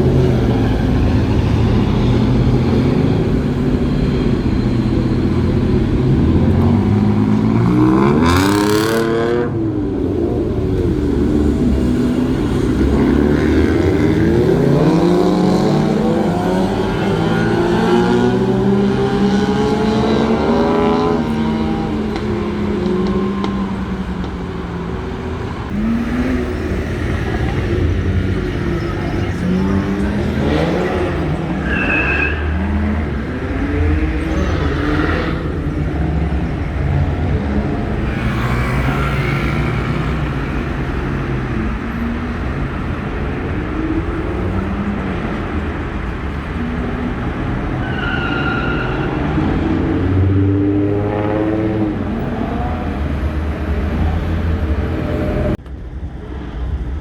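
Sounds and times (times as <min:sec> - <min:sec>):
vehicle engines revving and passing: 0:00.0 - 0:57.0.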